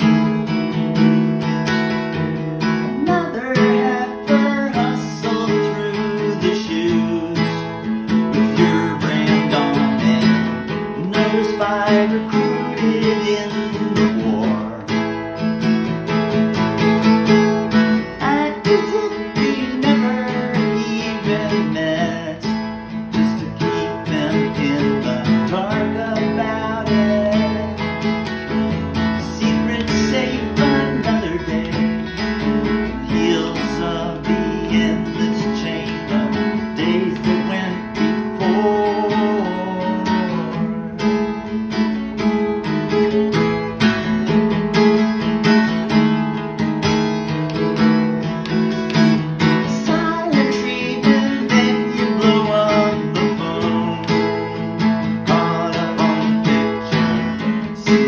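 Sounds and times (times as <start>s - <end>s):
man singing: 0.0s - 0.5s, 2.6s - 15.7s, 16.9s - 43.4s, 47.6s - 58.0s
acoustic guitar strumming: 0.0s - 58.0s.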